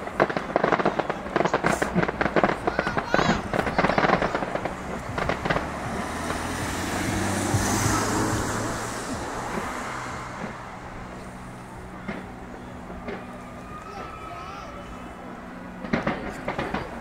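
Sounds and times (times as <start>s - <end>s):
firework crackles: 0.0s - 17.0s
low engine hum: 0.0s - 17.0s
vehicle passing: 0.0s - 17.0s.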